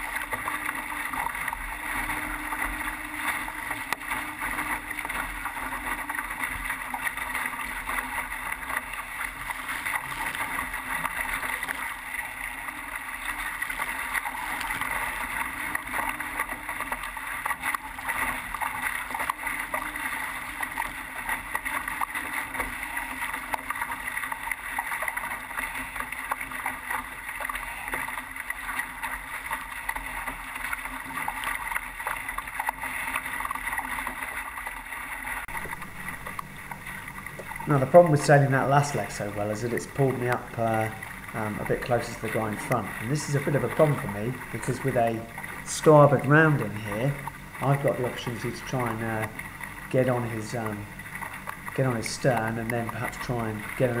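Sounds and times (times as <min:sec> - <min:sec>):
water rushing along hull: 0:00.0 - 0:54.0.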